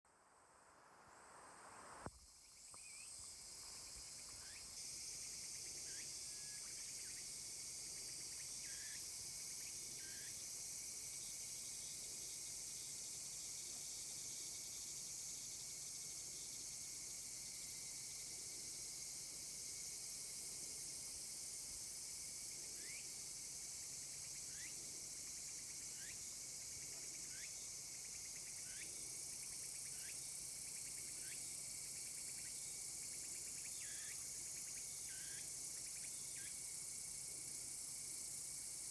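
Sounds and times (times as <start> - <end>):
cicadas shrilling: 2.2 - 20.2, 21.1 - 37.0.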